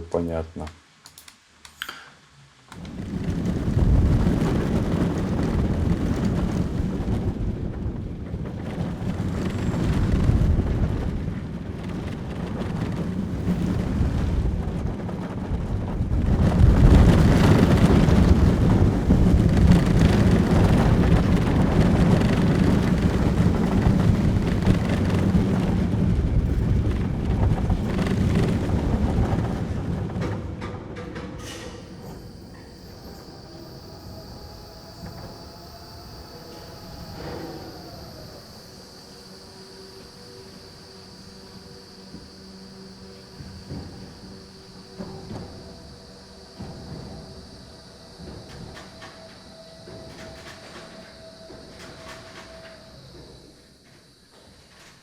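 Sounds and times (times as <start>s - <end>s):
ride car rumbling on track: 2.8s - 53.7s
wheels rattling: 2.8s - 53.8s.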